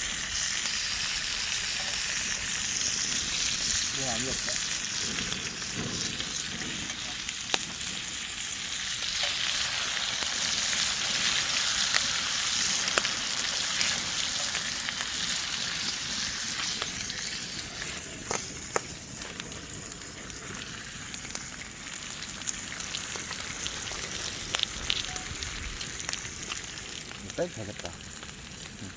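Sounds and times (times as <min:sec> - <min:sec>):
fire pops: 0:00.0 - 0:28.9
meat sizzling over fire: 0:00.0 - 0:28.9.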